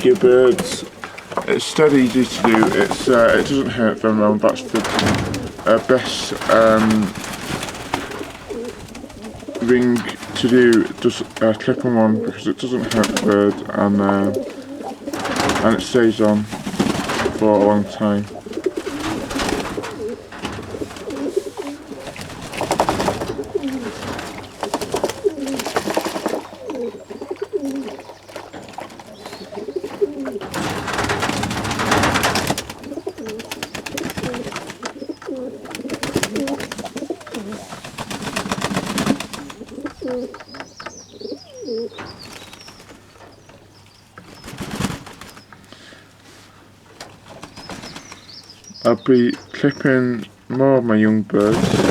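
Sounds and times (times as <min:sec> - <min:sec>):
pigeons cooing: 0:00.0 - 0:51.9.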